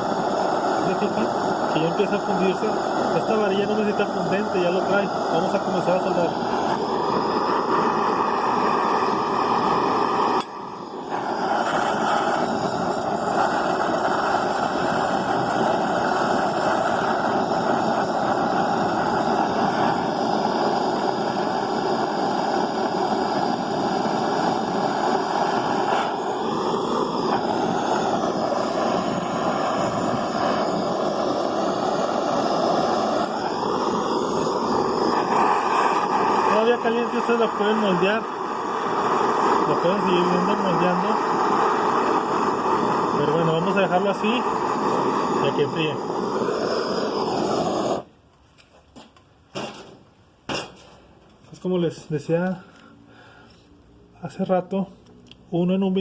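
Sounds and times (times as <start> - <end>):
gas torch hissing: 0.0 - 56.0.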